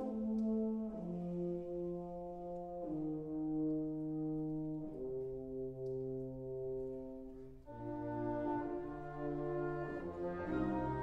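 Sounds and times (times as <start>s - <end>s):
slow brass chords: 0.0s - 11.0s.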